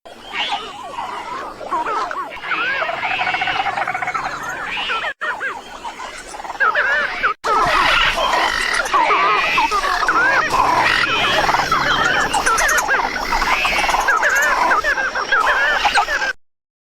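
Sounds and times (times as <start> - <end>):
dinosaur chirping and squealing: 0.2 - 16.3.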